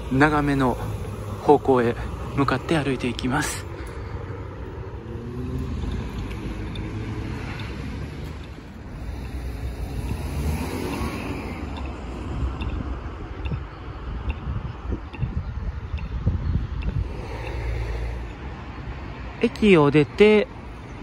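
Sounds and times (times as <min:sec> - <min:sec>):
cars passing: 0:00.0 - 0:21.0
passing vehicle: 0:00.0 - 0:21.0.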